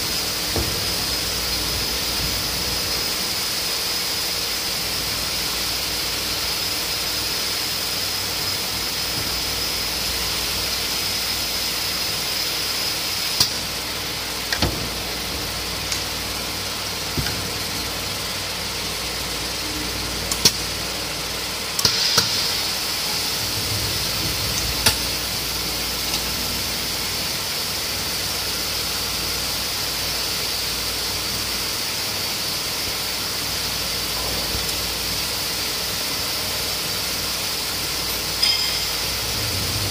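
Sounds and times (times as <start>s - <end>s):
motor hum with high whine: 0.0s - 39.9s.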